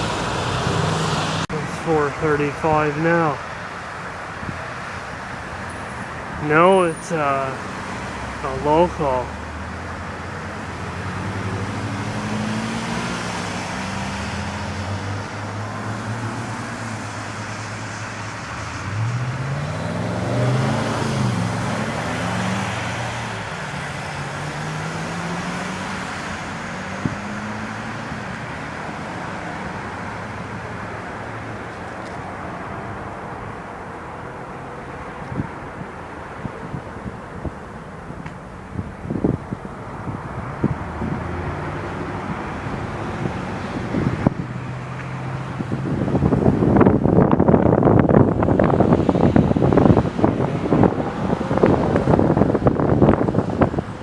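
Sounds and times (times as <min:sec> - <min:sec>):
heavy vehicle engine hum: 0:00.0 - 0:54.0.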